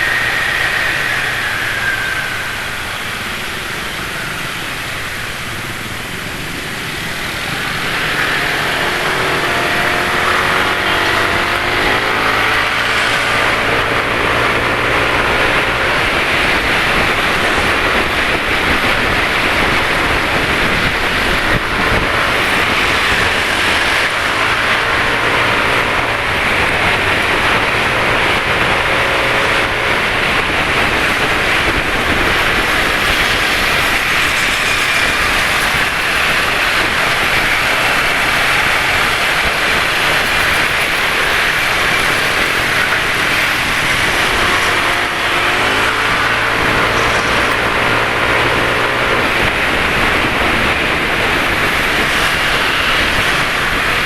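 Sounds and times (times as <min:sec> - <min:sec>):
passing motorcycle engines: 0:00.0 - 0:54.0
wind and road noise: 0:00.0 - 0:54.0.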